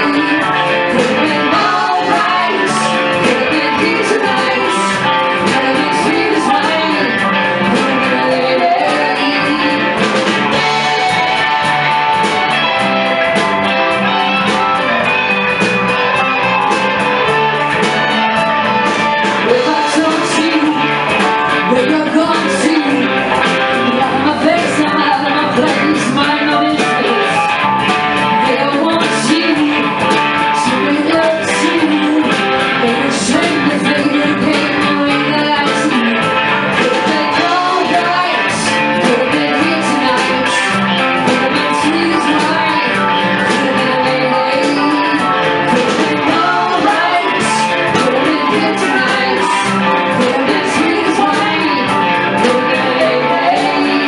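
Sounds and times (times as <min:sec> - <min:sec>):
woman singing: 0:00.0 - 0:11.9, 0:19.3 - 0:54.0
bass guitar: 0:00.0 - 0:54.0
drums: 0:00.0 - 0:54.0
electric guitars: 0:00.0 - 0:54.0.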